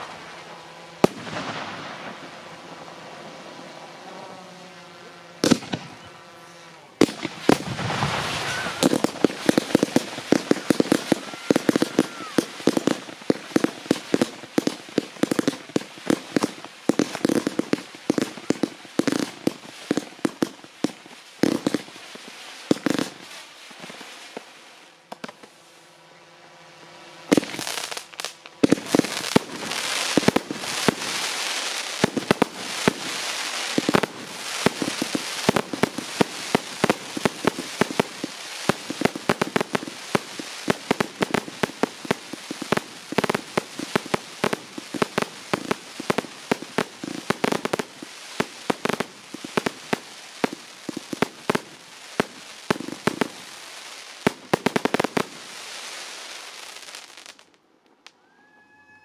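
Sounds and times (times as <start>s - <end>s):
fireworks bangs and crackles: 0.0s - 4.0s, 5.4s - 6.2s, 6.8s - 25.6s, 27.3s - 58.1s
steady hiss: 0.0s - 58.1s.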